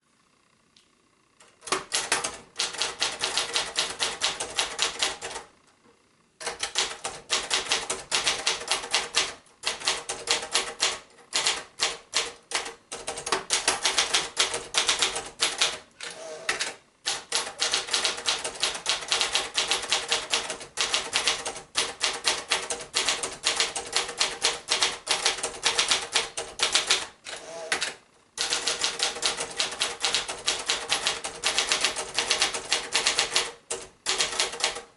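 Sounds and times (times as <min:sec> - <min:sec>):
typewriter keys clacking: 0:01.6 - 0:05.4, 0:06.4 - 0:15.8, 0:16.5 - 0:27.1, 0:27.7 - 0:34.9.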